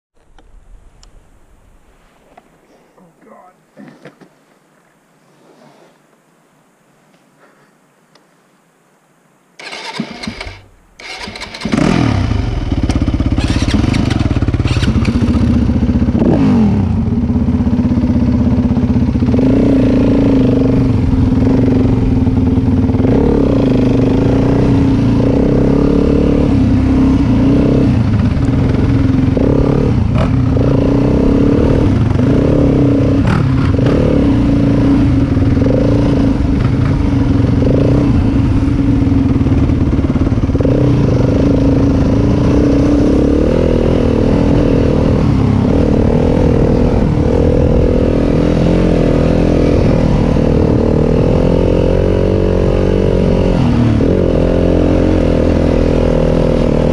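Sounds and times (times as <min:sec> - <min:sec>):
dirt bike engine revving: 0:09.6 - 0:56.9.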